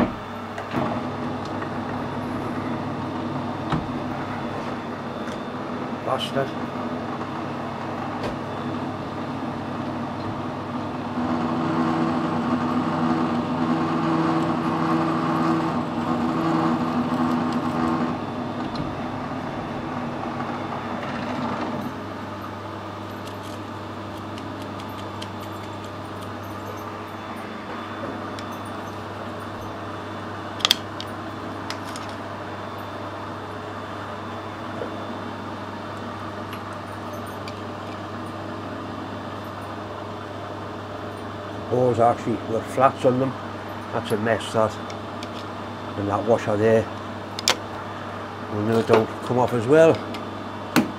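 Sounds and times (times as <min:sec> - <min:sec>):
metal lathe running: 0:00.0 - 0:50.9
steady low hum: 0:00.0 - 0:50.9.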